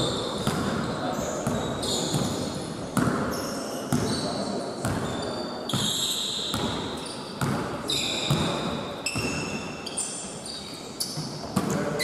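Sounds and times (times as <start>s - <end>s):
basketball bouncing on court: 0.0s - 9.9s, 11.0s - 12.0s
sneakers squeaking: 0.0s - 12.0s.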